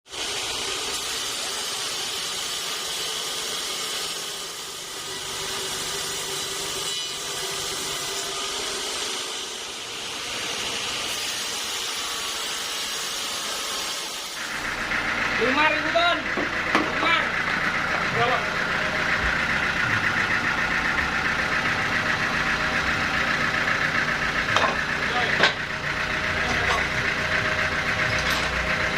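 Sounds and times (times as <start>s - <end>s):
sawmill saw cutting log: 0.1s - 28.9s.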